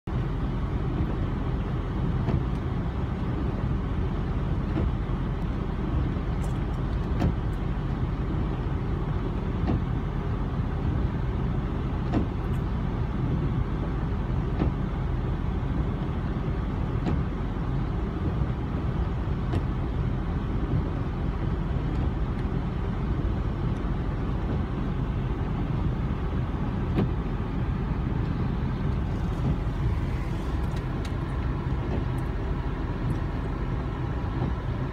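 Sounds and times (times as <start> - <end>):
engine rumble: 0.0 - 34.9.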